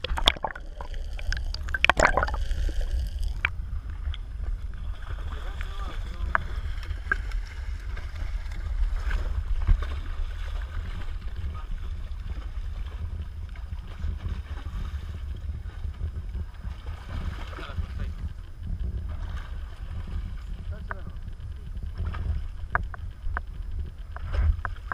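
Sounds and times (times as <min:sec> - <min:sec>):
sea noise against boat: 0:00.0 - 0:24.9
wind on microphone: 0:00.0 - 0:24.9.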